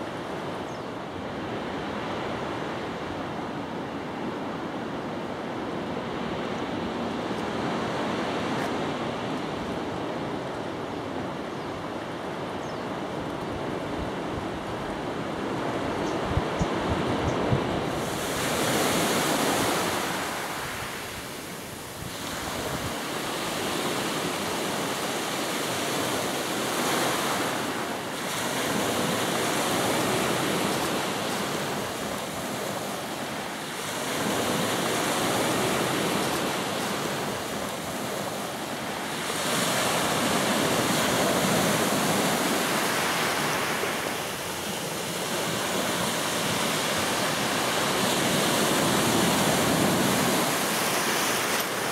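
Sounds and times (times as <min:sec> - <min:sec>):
ocean waves breaking on beach: 0:00.0 - 0:51.9.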